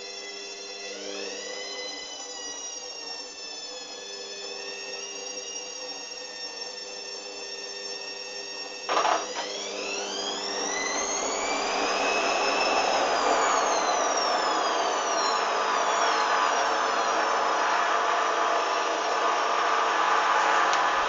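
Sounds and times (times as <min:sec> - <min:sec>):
washing machine motor whine: 0:00.0 - 0:21.0.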